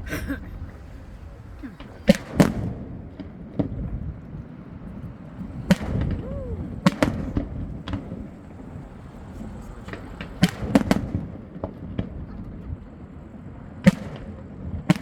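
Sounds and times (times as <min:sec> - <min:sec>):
fireworks bangs: 0:00.6 - 0:15.0.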